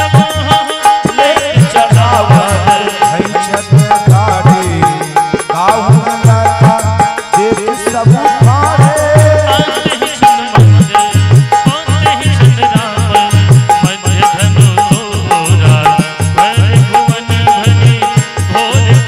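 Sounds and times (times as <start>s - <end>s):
hand drum rhythm: 0.0s - 19.0s
harmonium melody: 0.0s - 19.0s.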